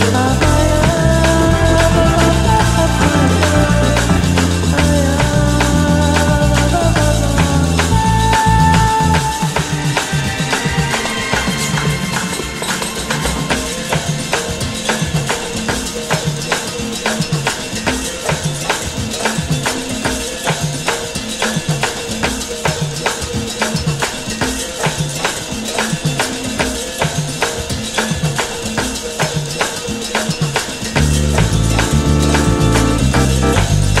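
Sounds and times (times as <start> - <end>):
background music with percussion beat: 0.0 - 34.0.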